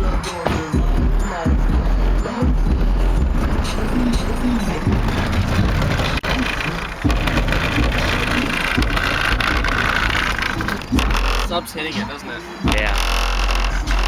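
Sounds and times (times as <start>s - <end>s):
bass-heavy music through subwoofer: 0.0s - 11.6s, 12.6s - 14.0s.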